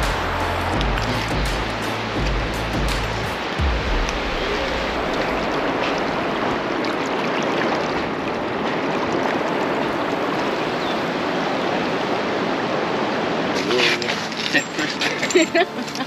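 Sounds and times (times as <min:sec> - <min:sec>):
steady rushing noise: 0:00.0 - 0:15.4.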